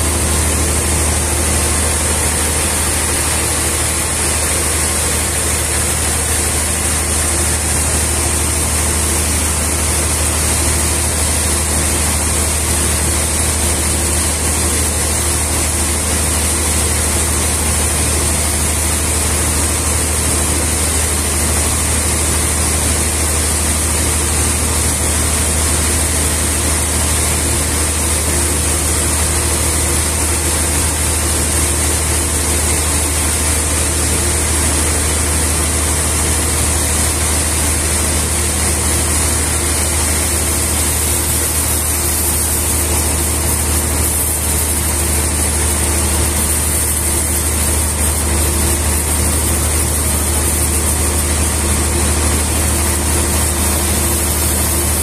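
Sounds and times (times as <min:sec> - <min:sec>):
band saw cutting log: 0:00.0 - 0:23.1, 0:23.8 - 0:55.0.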